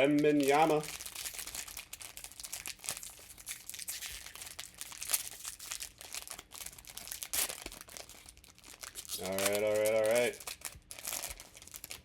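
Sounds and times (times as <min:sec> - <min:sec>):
plastic wrapper crinkling and tearing: 0:00.0 - 0:12.0.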